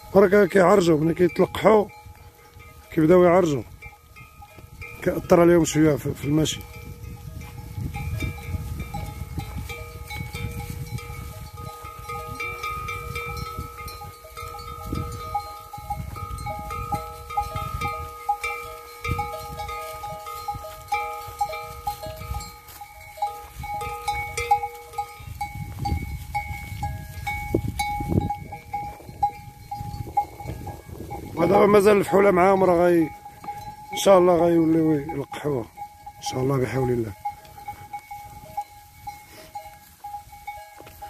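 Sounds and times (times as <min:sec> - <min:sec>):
goat bells clinking: 0:00.0 - 0:41.0.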